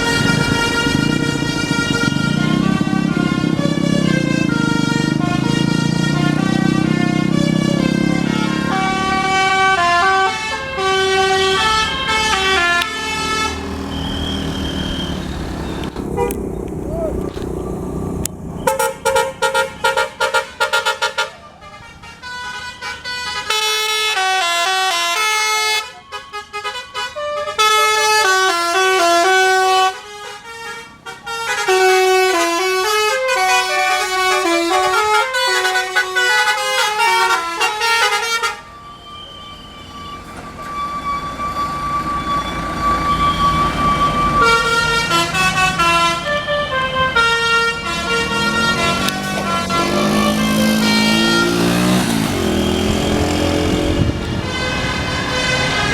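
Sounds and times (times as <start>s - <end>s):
multi-tone bus air horn melody: 0.0s - 16.4s, 18.6s - 55.9s
bus engine rumble: 0.0s - 55.9s.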